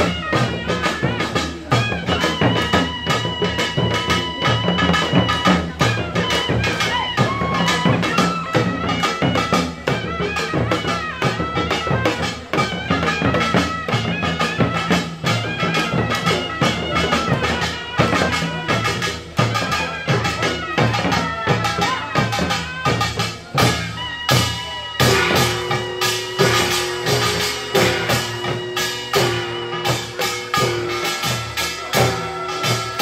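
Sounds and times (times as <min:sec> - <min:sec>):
barrel drums beating: 0:00.0 - 0:33.0
hourglass drums beating: 0:00.0 - 0:33.0
reedy shawm melody: 0:00.0 - 0:33.0.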